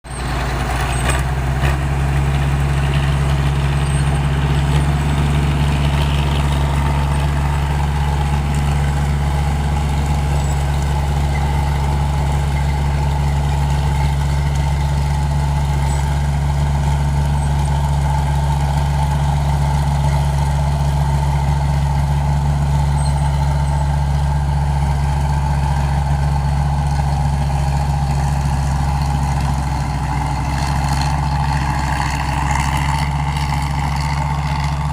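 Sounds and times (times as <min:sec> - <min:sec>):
large diesel engine humming: 0:00.0 - 0:34.9.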